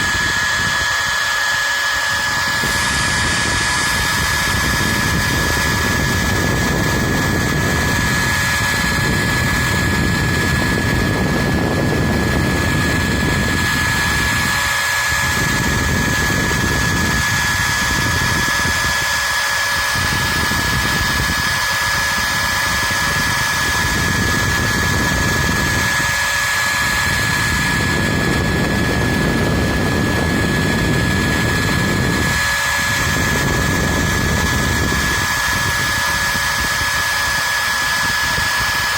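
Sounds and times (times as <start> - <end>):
low rough cutting noise: 0.0 - 38.9
router spindle whining: 0.0 - 38.9.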